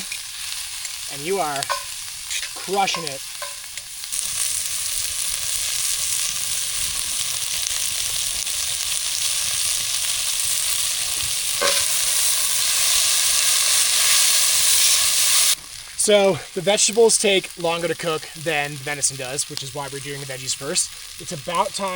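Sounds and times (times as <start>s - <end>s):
vegetables sizzling in oil: 0.0s - 21.9s.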